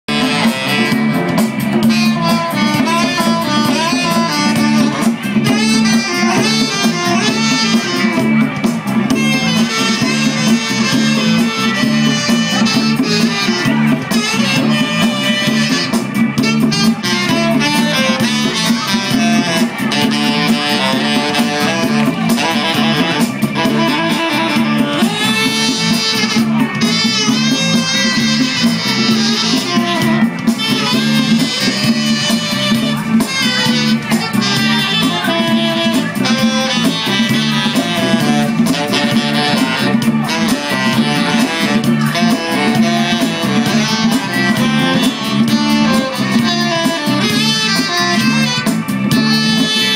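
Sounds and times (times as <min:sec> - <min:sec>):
bass line: 0:00.0 - 0:49.9
electric guitars: 0:00.1 - 0:49.9
saxophone melody: 0:00.1 - 0:49.9.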